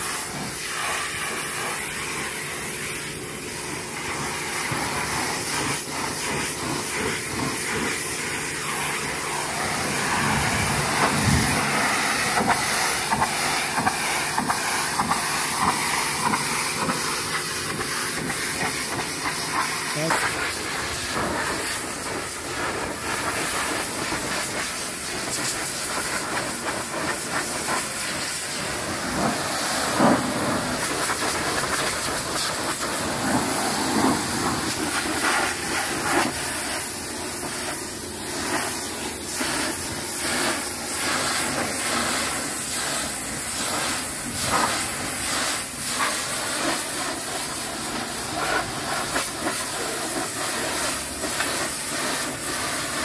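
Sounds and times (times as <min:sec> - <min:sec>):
pressure washer spraying hull: 0:00.0 - 0:53.0.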